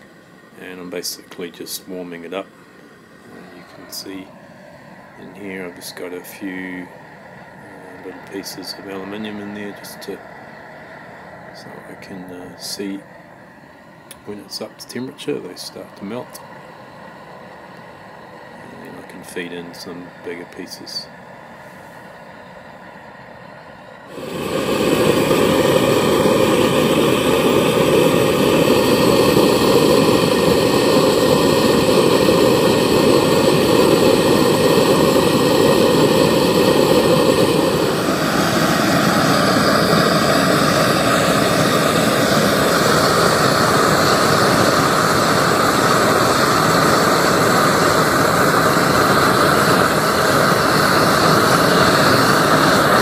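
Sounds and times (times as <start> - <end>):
gas burner roaring: 0.0 - 53.0.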